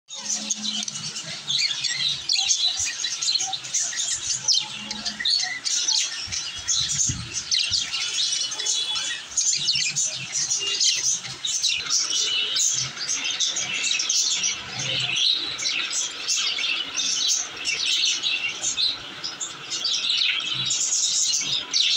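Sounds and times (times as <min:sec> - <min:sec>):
budgerigars chirping and warbling: 0:00.1 - 0:21.9.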